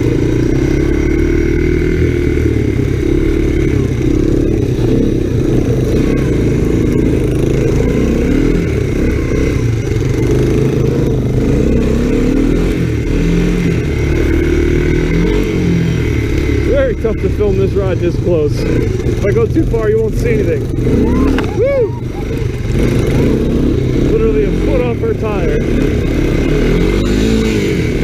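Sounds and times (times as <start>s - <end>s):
three-wheeler engine revving: 0.0s - 28.0s.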